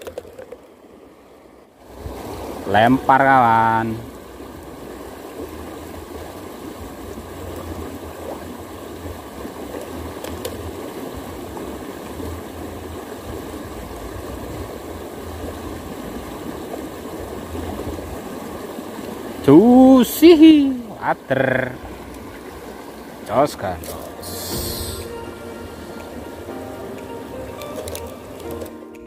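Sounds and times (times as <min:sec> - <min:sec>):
river rushing over riffle: 0:01.8 - 0:29.0.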